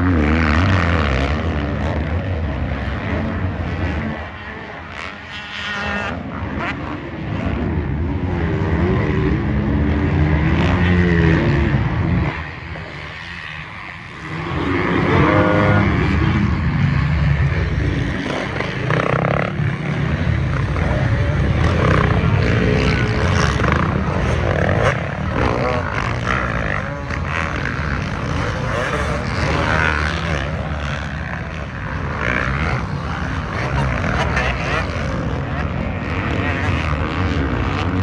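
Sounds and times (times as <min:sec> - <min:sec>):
off-road racing engines revving: 0:00.0 - 0:38.0.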